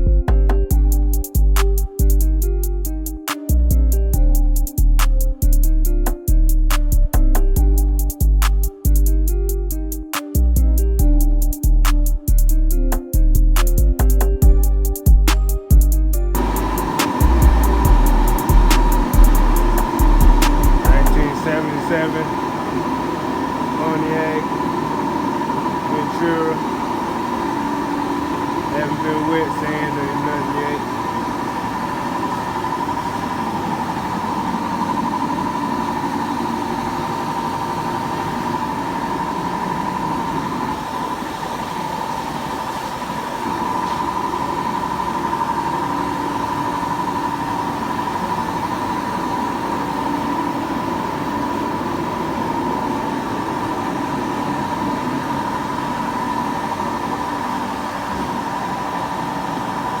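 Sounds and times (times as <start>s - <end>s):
machine droning with high hum: 0.0s - 60.0s.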